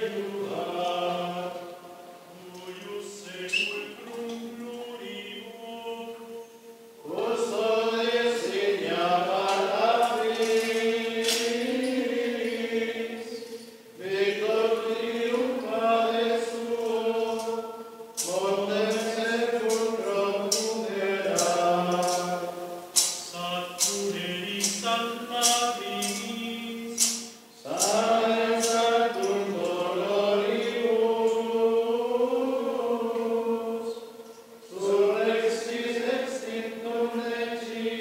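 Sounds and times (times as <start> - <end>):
men singing plainchant in unison: 0.0 - 38.0.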